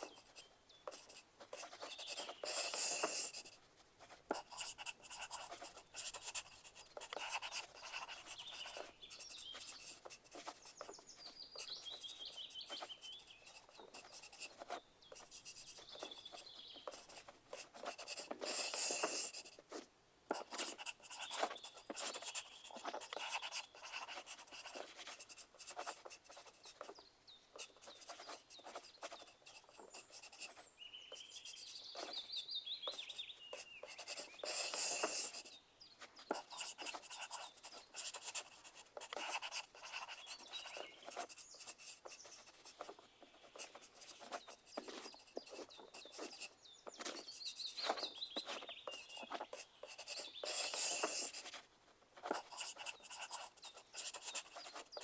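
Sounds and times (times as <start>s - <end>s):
pencil scratching on paper: 0.0s - 27.0s, 27.6s - 35.6s, 36.2s - 55.0s.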